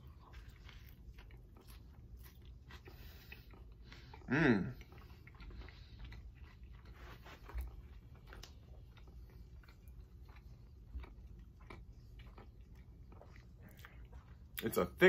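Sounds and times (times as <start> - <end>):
low steady hum: 0.0 - 15.0
person chewing: 0.0 - 15.0.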